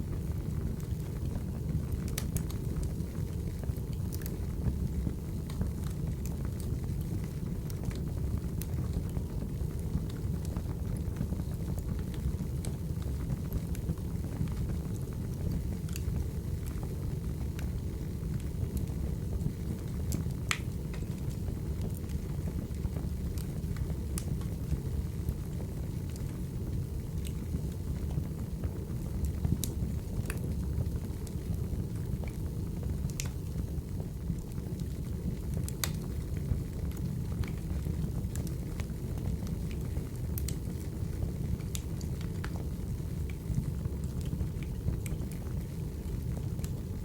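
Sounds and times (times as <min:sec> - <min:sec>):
fire crackling and popping: 0:00.0 - 0:47.0
firewood burning: 0:00.0 - 0:47.0.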